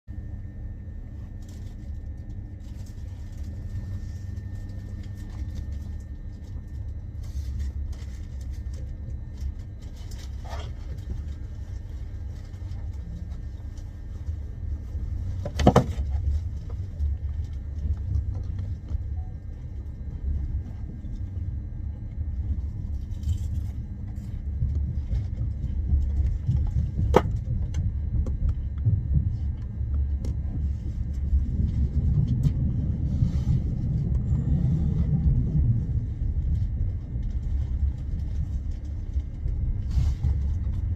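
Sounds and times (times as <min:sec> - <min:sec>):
moving train rumble: 0:00.1 - 0:40.9.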